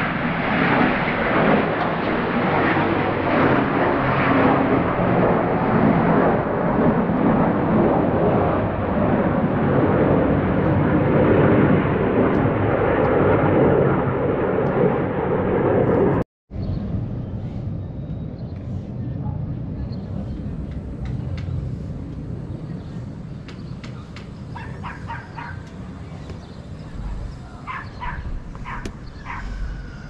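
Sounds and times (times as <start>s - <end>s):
military aircraft roaring overhead: 0.0s - 30.0s.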